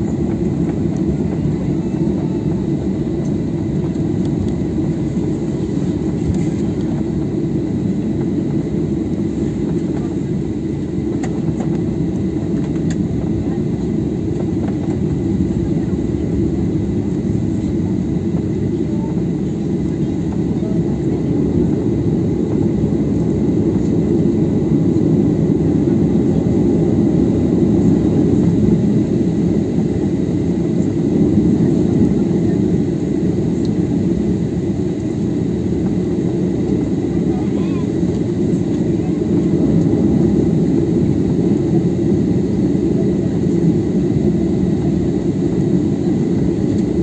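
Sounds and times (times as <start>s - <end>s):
jet engines rumbling in cabin: 0.0s - 47.0s.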